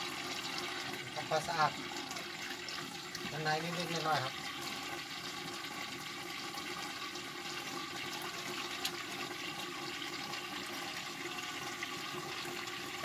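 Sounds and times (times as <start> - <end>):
water running into urinal bowl: 0.0 - 13.0.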